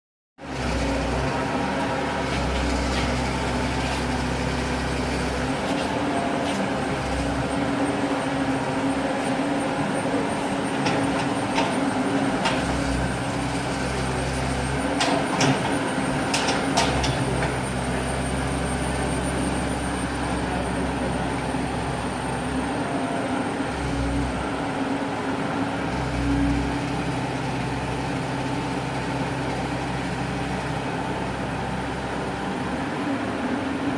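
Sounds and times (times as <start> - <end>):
diesel engine running: 0.5 - 33.9.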